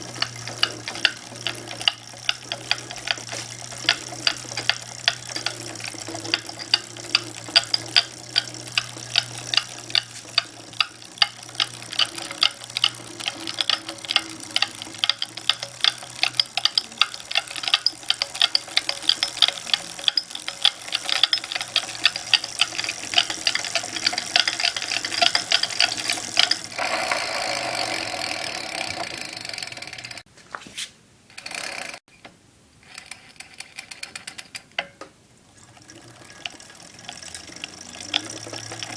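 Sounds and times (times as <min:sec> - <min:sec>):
bicycle drivetrain clicking: 0:00.0 - 0:30.3, 0:31.3 - 0:32.0, 0:32.9 - 0:35.0, 0:35.6 - 0:38.9.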